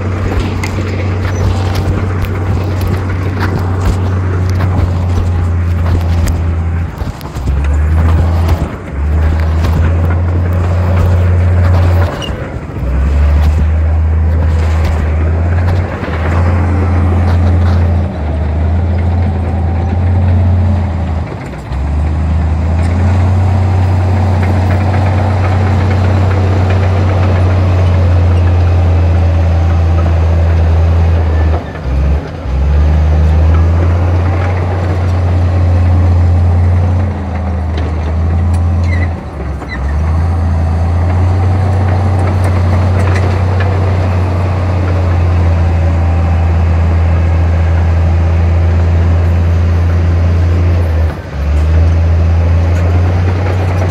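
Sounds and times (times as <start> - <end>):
heavy diesel engine droning: 0.0 - 53.9.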